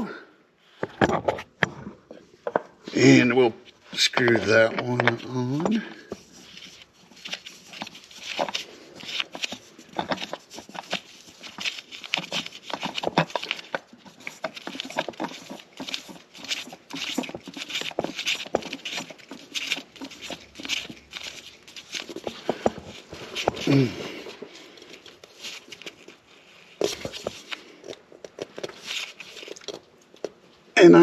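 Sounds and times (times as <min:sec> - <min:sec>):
hands screwing on oil filter: 0:04.0 - 0:30.4.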